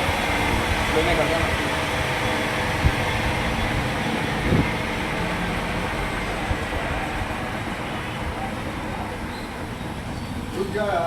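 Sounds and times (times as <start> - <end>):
lathe machine humming: 0.0 - 9.2.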